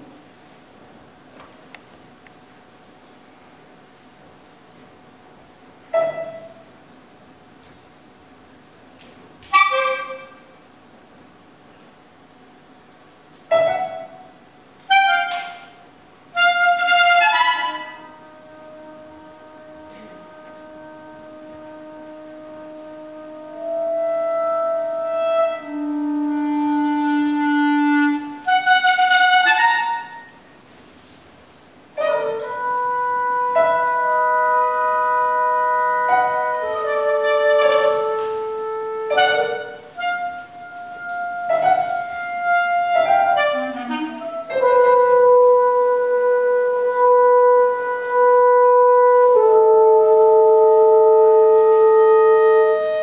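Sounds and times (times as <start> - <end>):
long held wind notes: 8.1 - 53.0.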